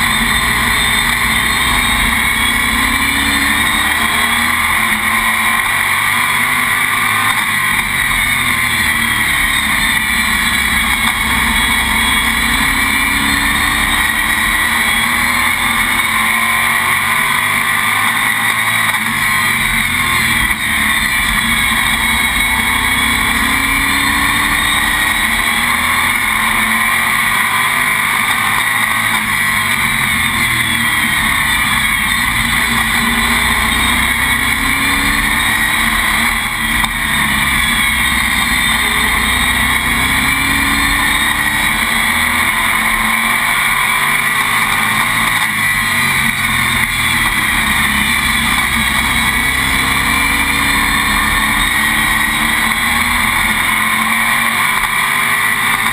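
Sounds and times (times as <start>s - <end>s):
race car engine: 0.0s - 55.9s.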